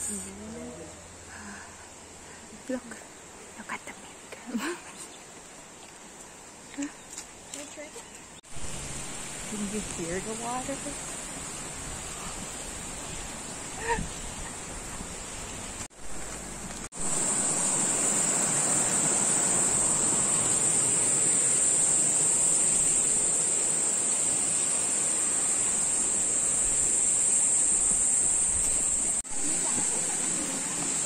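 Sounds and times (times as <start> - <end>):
thin high hiss: 0.0 - 7.2, 8.3 - 31.0.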